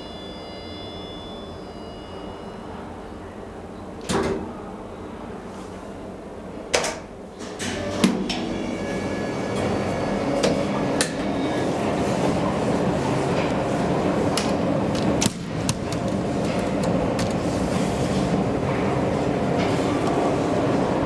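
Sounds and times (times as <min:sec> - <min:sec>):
elevator running noise: 0:00.0 - 0:21.0.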